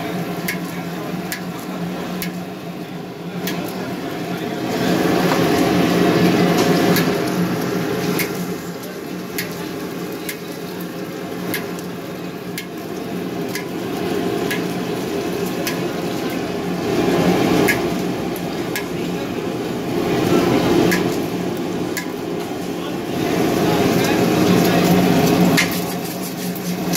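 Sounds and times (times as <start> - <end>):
eggs sizzling in oil: 0.0 - 26.9
wok burner rushing: 0.0 - 26.9.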